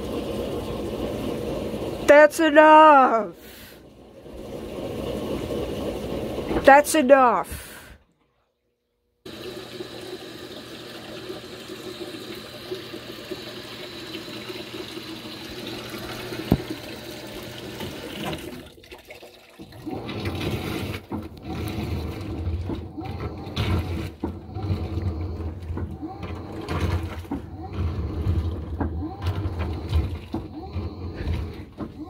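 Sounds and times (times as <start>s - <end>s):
water splashing in washing machine: 0.0s - 3.1s, 3.8s - 7.2s, 9.3s - 32.0s
washing machine hum: 0.0s - 8.6s, 9.2s - 32.0s.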